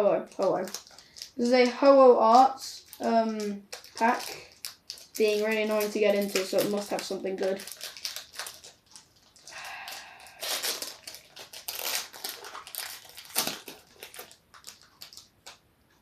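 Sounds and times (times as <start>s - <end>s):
foil wrapper crinkling: 0.2s - 15.6s
foil wrapper ripping: 0.3s - 1.5s, 2.3s - 15.6s.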